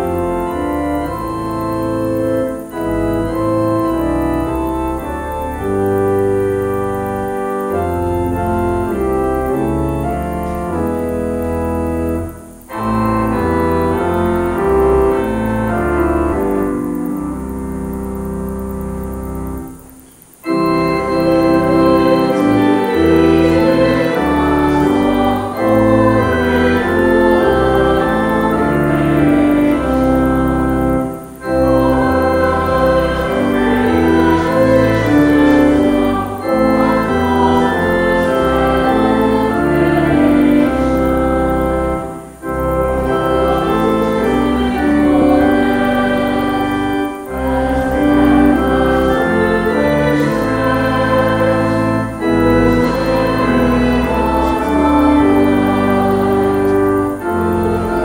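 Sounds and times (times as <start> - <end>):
organ playing hymn chords: 0.0 - 58.0.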